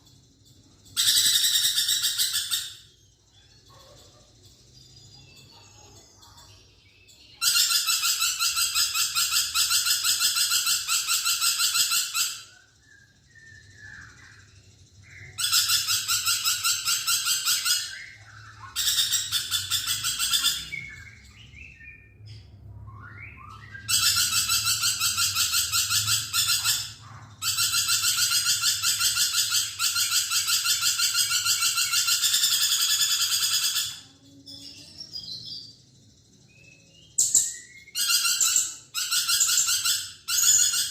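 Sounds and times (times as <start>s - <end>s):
lorikeet trilling chatter: 0.0s - 40.9s.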